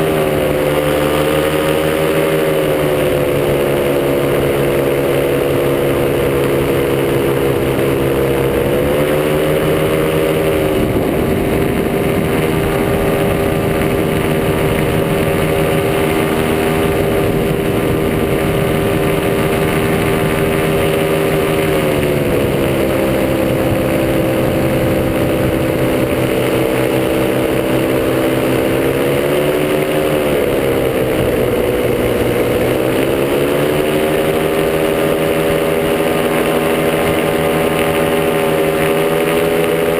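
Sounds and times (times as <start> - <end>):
two-stroke paramotor engine running: 0.0 - 39.9.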